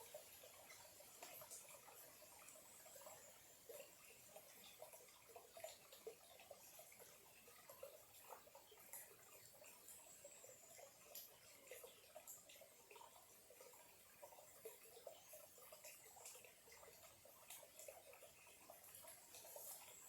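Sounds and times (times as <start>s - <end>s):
small stream trickling: 0.0s - 20.0s.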